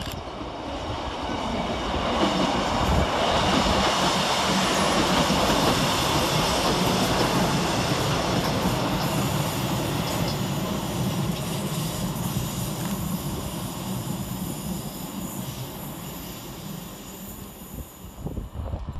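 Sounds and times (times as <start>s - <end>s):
diesel train passing: 0.0s - 18.9s.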